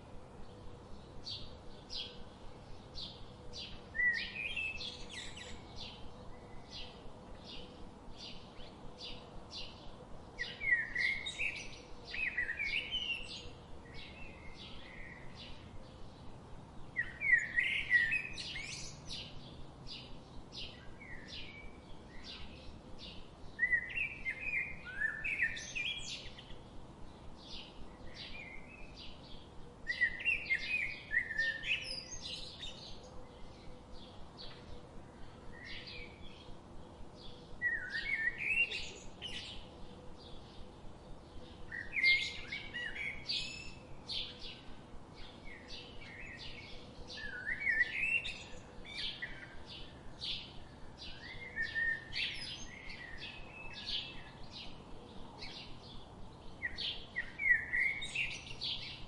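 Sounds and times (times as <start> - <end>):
songbirds chirping: 0.0 - 59.0
warbled bird song: 0.0 - 59.0.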